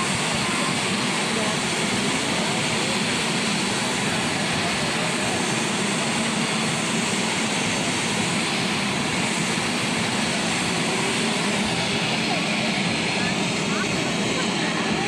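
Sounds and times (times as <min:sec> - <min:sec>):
fighter jet engine roar: 0:00.0 - 0:15.0.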